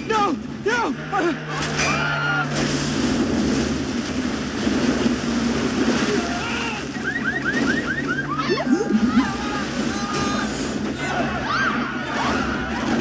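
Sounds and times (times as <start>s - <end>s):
seawater rushing: 0.0s - 13.0s.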